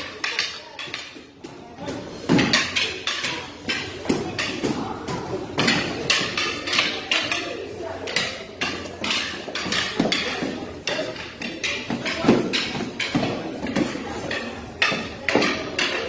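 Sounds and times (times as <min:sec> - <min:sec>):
practice sticks clacking: 0:00.0 - 0:16.0.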